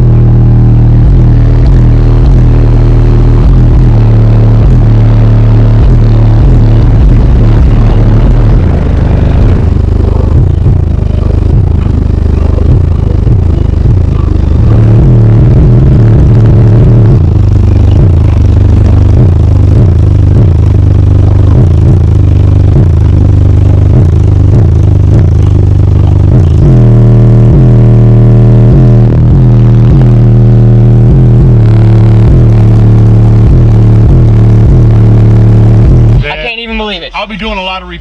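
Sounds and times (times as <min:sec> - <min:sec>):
loud distorted bass music: 0:00.0 - 0:38.0.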